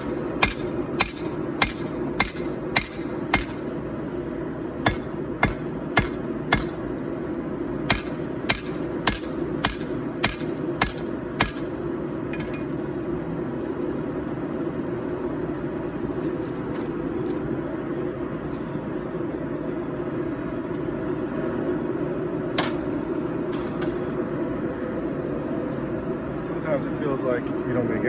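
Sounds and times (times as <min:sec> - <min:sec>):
gas forge burner rushing: 0:00.0 - 0:27.9.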